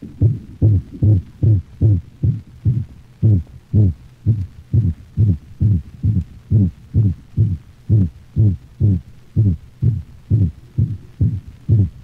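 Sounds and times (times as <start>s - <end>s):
heartbeat with musical murmur: 0.0s - 12.0s.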